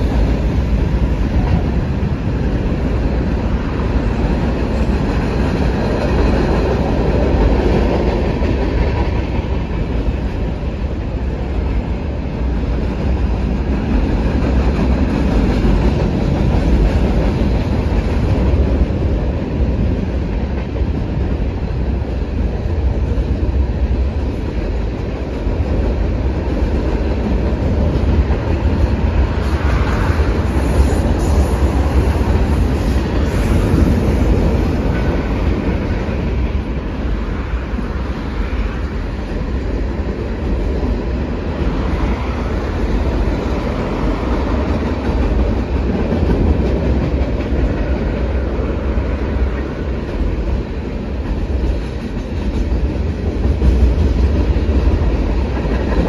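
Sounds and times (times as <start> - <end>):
freight train on a steel bridge: 0.0 - 56.0
wheels clickety-clack on rails: 0.0 - 56.0.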